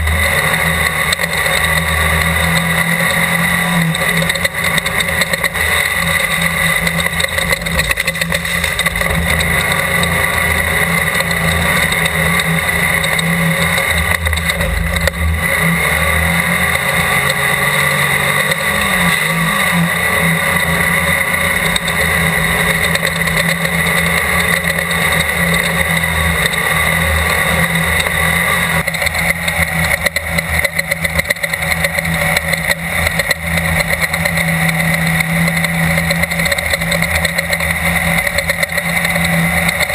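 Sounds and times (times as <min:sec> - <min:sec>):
race car engine drone: 0:00.0 - 0:39.9.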